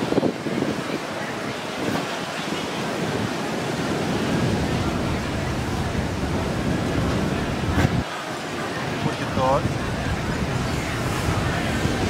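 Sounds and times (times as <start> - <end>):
ocean surf on sandy beach: 0.0 - 12.0
wind rumbling on microphone: 0.0 - 12.0.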